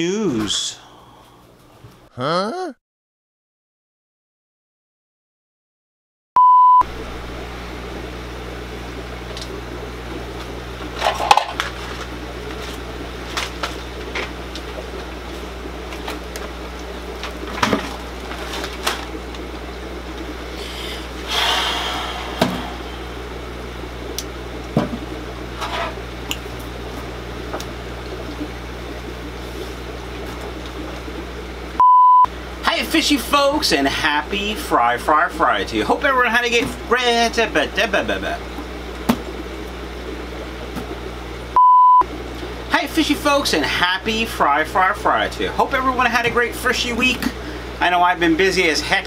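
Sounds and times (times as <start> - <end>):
air pumps humming: 6.9 - 49.0.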